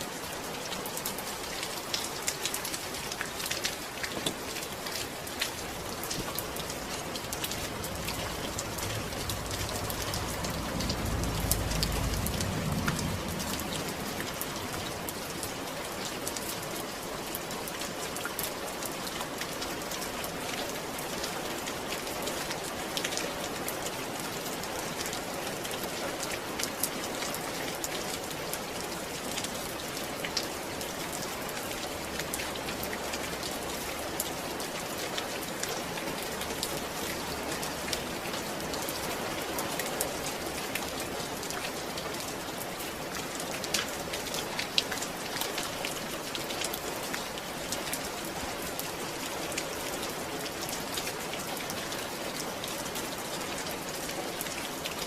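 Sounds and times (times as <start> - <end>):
raindrops ticking on a surface: 0.0 - 55.0
steady rain falling: 0.0 - 55.0.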